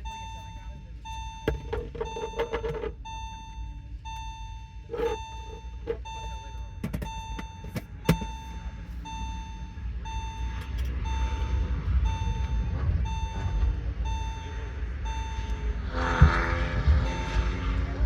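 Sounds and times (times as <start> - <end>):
electronic warning beep: 0.0 - 18.0
low car rumble: 0.0 - 18.0.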